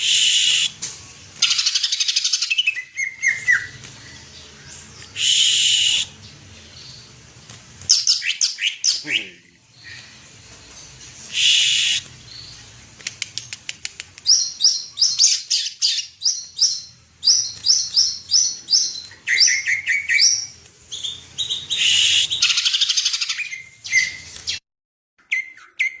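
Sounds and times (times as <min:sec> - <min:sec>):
bird singing loud whistled song: 0:00.0 - 0:00.8, 0:01.4 - 0:07.1, 0:07.9 - 0:10.1, 0:11.3 - 0:12.6, 0:14.3 - 0:24.6, 0:25.2 - 0:26.0.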